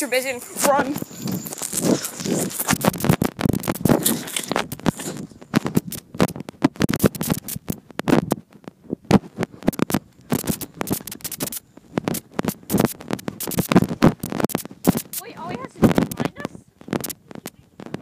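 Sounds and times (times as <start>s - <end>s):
microphone handling scrapes and knocks: 0.0s - 18.0s.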